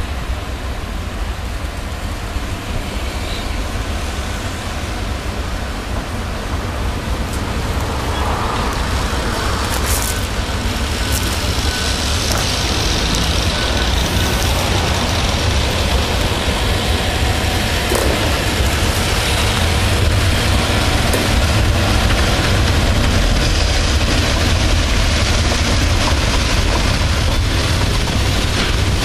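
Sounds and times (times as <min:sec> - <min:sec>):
freight train running noise: 0:00.0 - 0:29.0
constant low rumble: 0:05.2 - 0:29.0.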